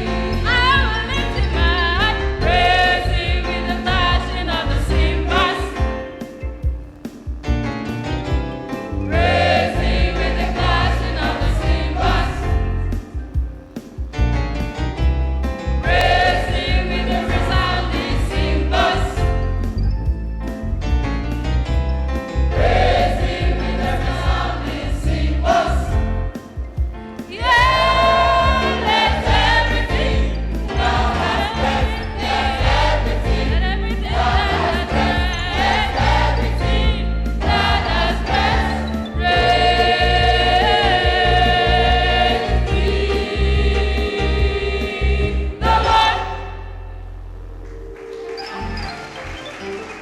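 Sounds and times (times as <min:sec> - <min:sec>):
heavy bass: 0:00.0 - 0:06.0, 0:06.6 - 0:49.4
choir singing gospel: 0:00.0 - 0:07.3, 0:08.4 - 0:14.0, 0:15.0 - 0:19.8, 0:22.2 - 0:50.0
instrumental accompaniment: 0:00.0 - 0:50.0.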